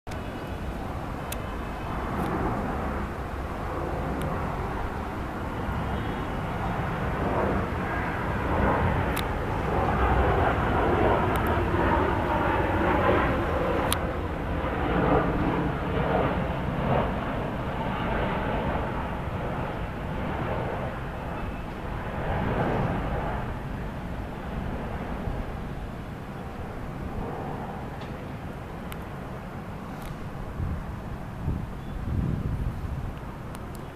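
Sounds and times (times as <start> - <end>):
jet engines rumbling: 0.1 - 33.9.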